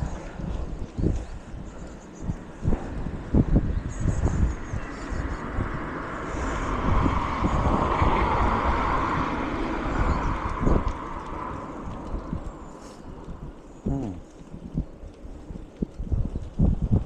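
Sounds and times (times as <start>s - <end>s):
passing car tyre noise: 0.0s - 17.0s
wind rumbling on microphone: 0.0s - 17.0s.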